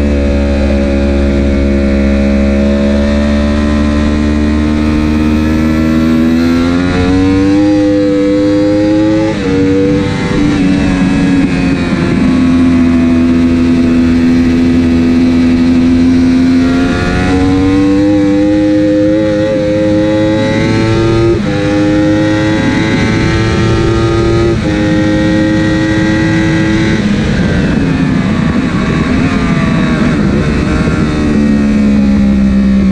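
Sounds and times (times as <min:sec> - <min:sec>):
motorcycle engine revving: 0:00.0 - 0:32.9
wind and road noise: 0:00.0 - 0:32.9.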